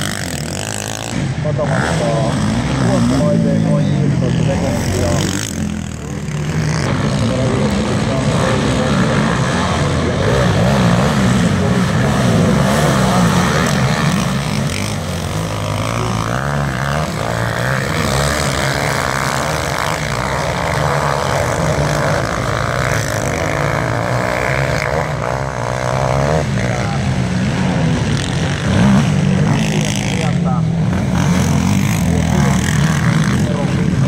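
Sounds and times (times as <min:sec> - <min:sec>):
quad bike engines revving: 0:00.0 - 0:34.0.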